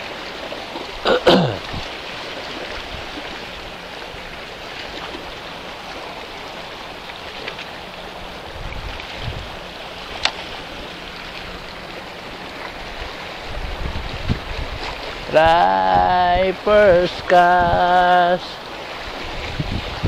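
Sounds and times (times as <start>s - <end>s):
seawater lapping against shore: 0.0s - 20.0s.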